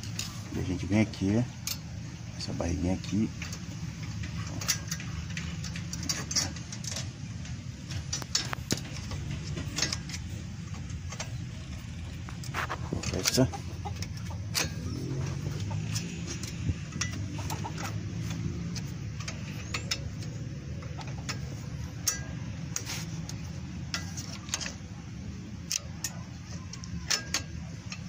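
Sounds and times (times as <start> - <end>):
sharp metallic clicks and taps: 1.5 - 1.9, 3.0 - 25.0, 25.6 - 28.0.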